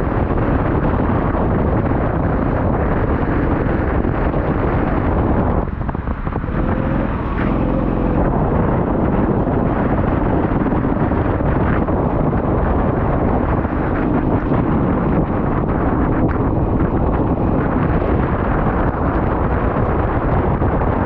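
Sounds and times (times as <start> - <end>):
wind buffeting microphone: 0.0 - 21.0
vehicle engine running: 2.3 - 19.4.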